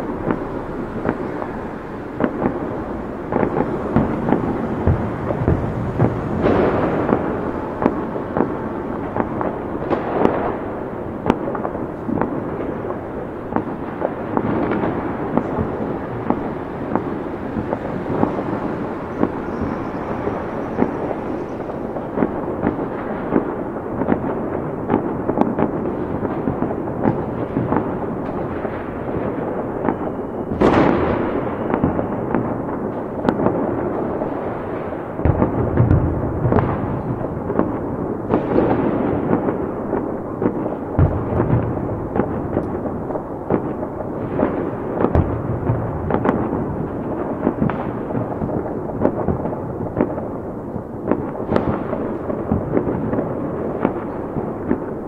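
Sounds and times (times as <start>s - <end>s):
fireworks bangs and crackles: 0.0s - 55.0s
loud firework blast: 0.0s - 55.0s.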